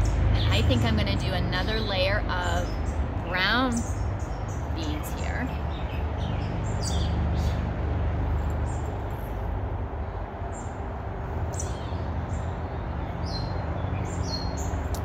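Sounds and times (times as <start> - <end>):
small birds chirping: 0.0 - 9.4, 10.0 - 15.0
steady low rumble: 0.0 - 15.0.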